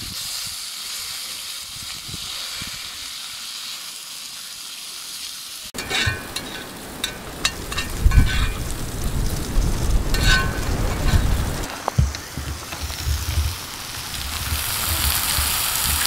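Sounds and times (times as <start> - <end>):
steak sizzling in a skillet: 0.0 - 16.0.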